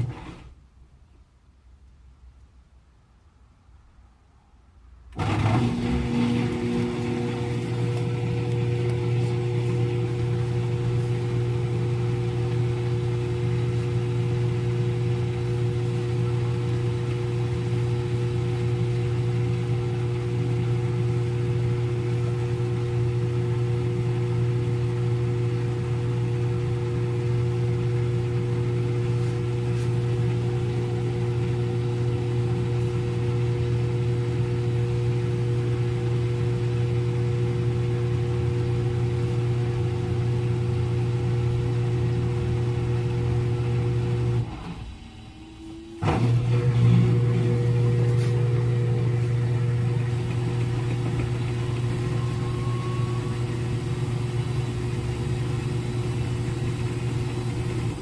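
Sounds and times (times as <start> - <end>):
washing machine drum spinning: 5.2 - 58.0.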